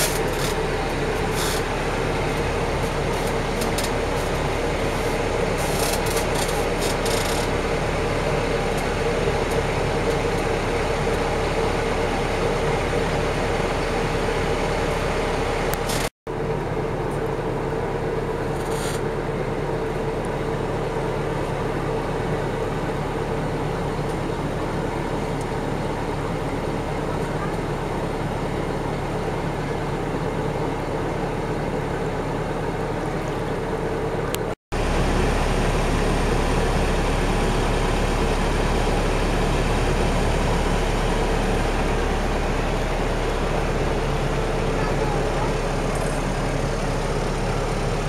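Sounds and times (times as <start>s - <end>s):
ferry engine droning: 0.0s - 48.0s.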